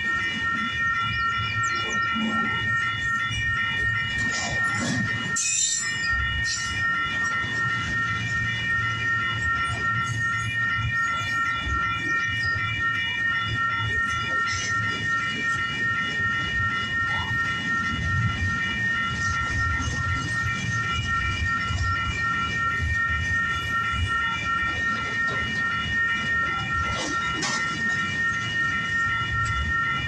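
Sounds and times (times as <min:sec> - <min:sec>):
rapidly pulsing high ringing: 0:00.0 - 0:30.0.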